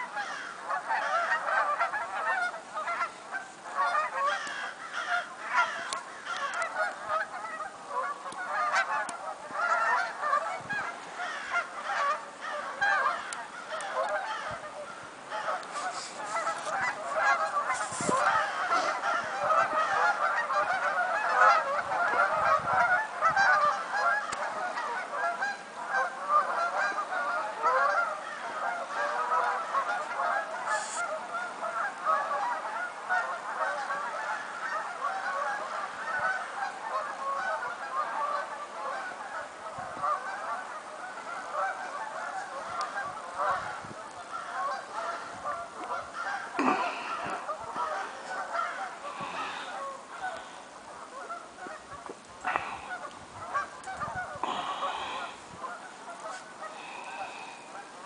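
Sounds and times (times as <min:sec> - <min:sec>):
flock of birds calling: 0:00.0 - 0:58.0.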